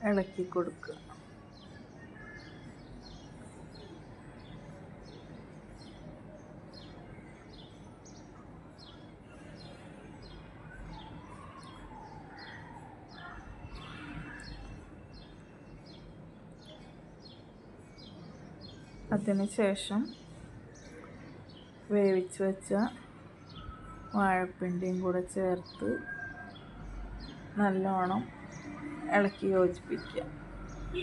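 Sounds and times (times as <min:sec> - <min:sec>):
low steady background noise: 0:00.0 - 0:31.0.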